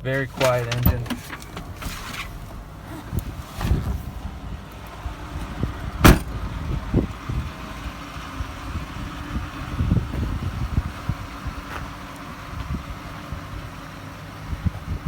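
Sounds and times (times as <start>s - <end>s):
engine knocks: 0.0s - 15.0s
truck engine idling: 0.0s - 15.0s.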